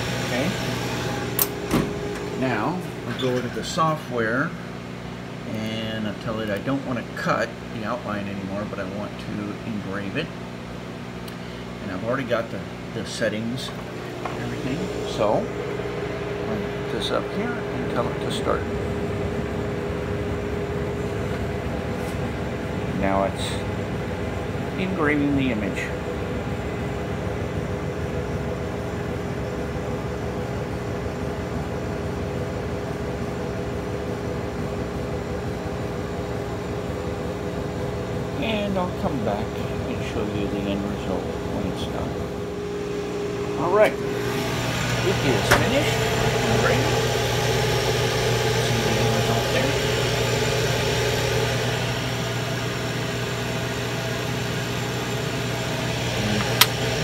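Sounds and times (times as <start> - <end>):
laser engraver humming: 0.0 - 57.0.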